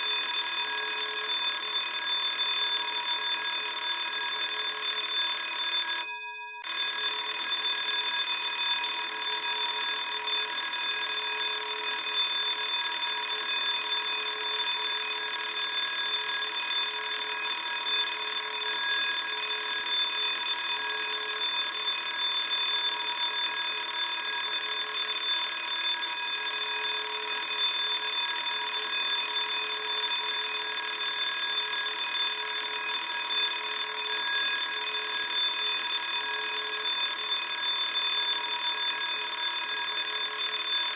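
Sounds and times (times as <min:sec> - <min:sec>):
electric school bell ringing: 0:00.0 - 0:40.9.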